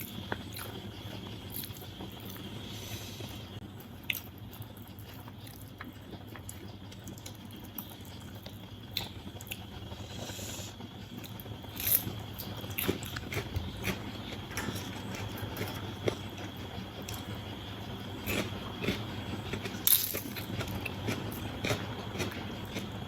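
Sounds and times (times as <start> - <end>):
person chewing food: 3.2 - 10.5, 11.1 - 23.0.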